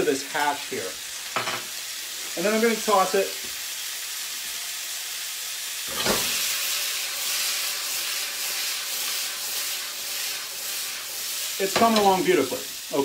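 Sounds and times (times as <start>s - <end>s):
hash sizzling in a skillet: 0.0s - 13.0s.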